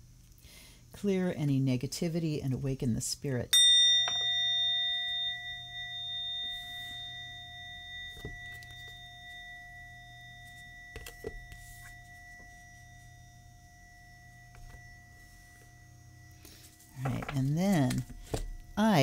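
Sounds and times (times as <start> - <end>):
metal singing bowl ringing: 3.5 - 19.0.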